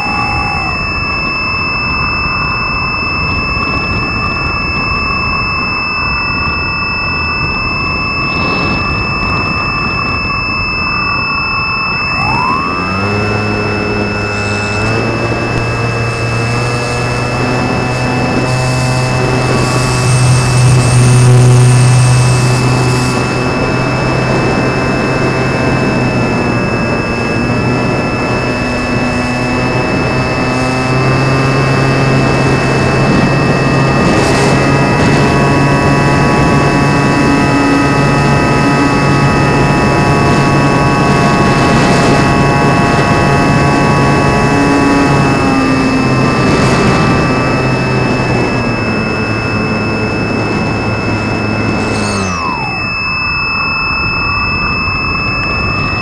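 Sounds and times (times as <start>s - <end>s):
model airplane motor whine: 0.0s - 56.0s
wind rush: 0.0s - 56.0s.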